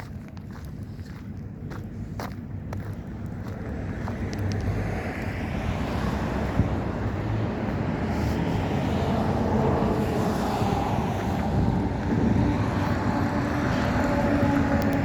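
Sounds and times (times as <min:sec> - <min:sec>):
vehicle traffic rumble: 0:00.0 - 0:15.0
wind buffeting microphone: 0:00.0 - 0:15.0
humming engine: 0:01.6 - 0:15.0.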